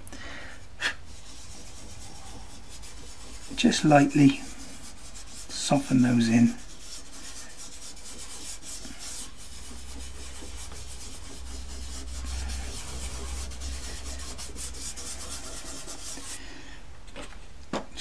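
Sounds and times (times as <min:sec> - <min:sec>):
fingertip rubbing pastel on paper: 0:01.0 - 0:16.4.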